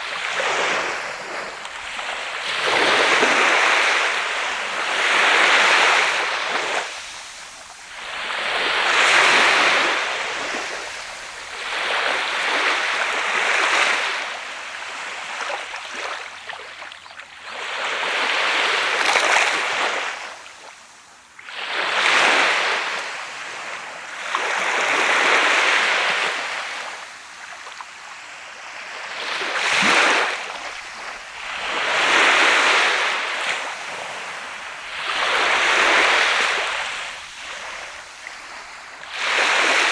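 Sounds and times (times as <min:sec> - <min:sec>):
waves breaking on shore: 0:00.0 - 0:20.8, 0:21.4 - 0:39.9.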